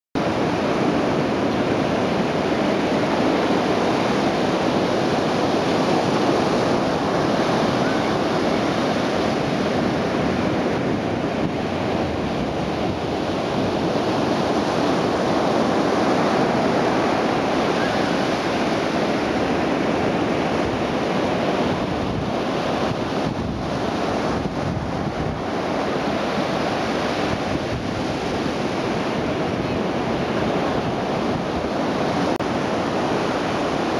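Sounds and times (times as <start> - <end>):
ocean surf breaking on beach: 0.2 - 33.9
wind buffeting microphone: 0.2 - 33.9.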